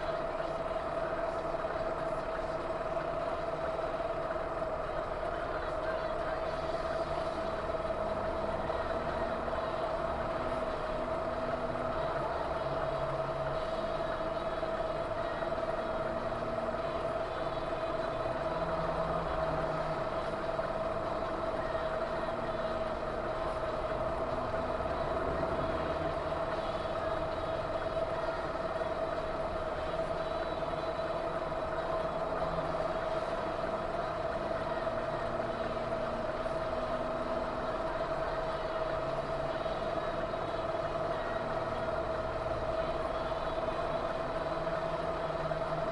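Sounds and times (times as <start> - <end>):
high hum: 0.0 - 45.9
vehicle running: 0.0 - 45.9.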